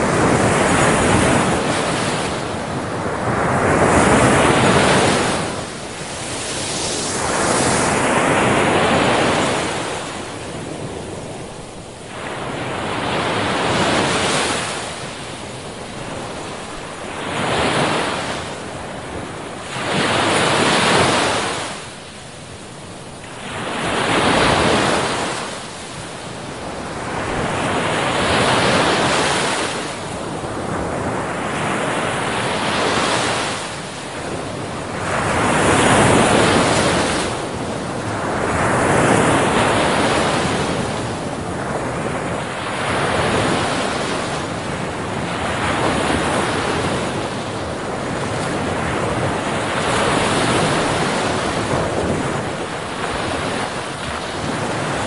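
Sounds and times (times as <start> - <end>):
waves breaking: 0.0 - 22.5, 23.2 - 55.0.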